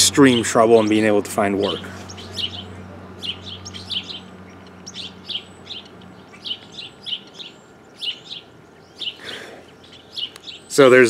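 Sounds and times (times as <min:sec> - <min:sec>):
small bird chirping: 0:01.6 - 0:11.0.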